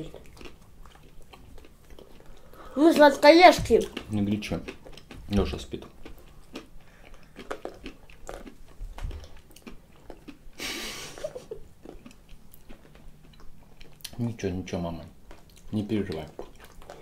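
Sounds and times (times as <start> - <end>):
people crunching snacks: 0.0 - 14.4, 15.2 - 17.0.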